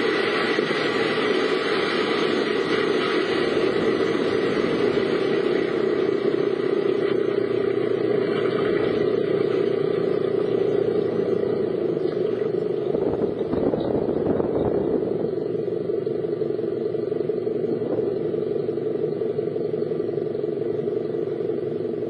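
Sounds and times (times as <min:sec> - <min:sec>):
car engine: 0:00.0 - 0:22.0
road noise: 0:00.0 - 0:22.0.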